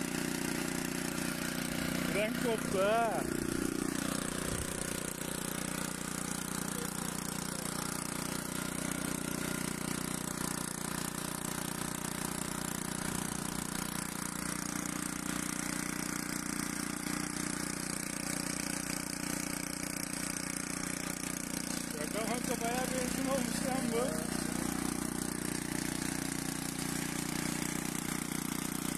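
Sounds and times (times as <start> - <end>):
scooter engine idling: 0.0 - 28.9.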